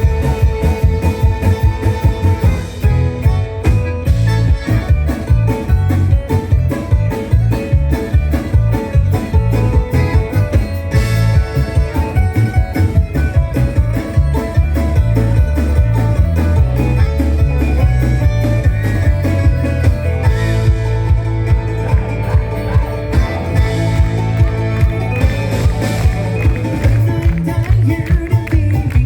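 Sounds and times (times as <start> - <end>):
banjo picking: 0.0 - 29.0
bass line: 0.0 - 29.0
guitar: 0.0 - 29.0.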